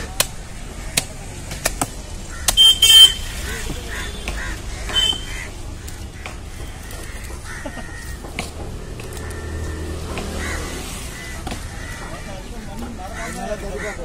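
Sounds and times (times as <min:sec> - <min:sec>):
crows calling: 0:02.2 - 0:14.0.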